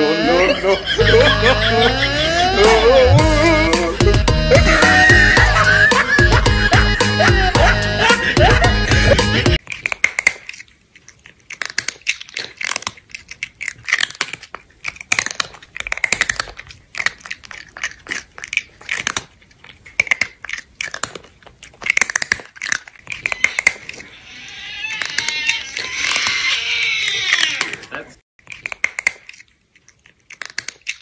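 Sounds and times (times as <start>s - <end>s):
crunchy chewing and munching: 1.4s - 31.0s.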